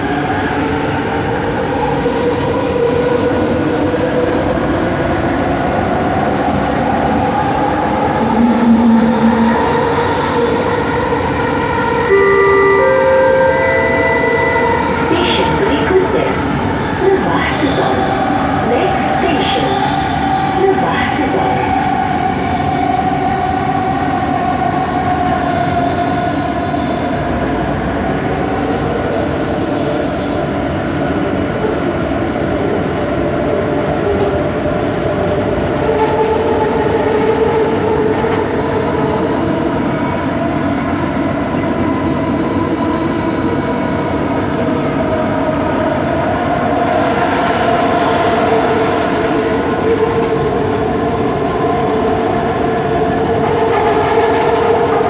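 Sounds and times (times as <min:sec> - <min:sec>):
metro train rolling rumble: 0:00.0 - 0:55.0.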